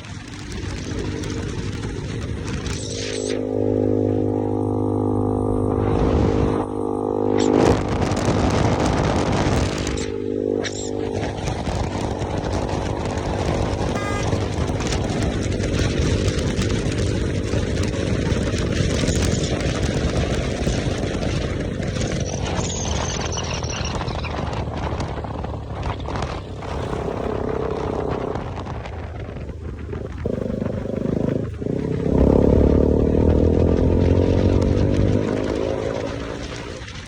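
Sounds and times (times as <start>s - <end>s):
motorcycle engine running: 0.0s - 37.0s
wind rush: 3.8s - 37.0s.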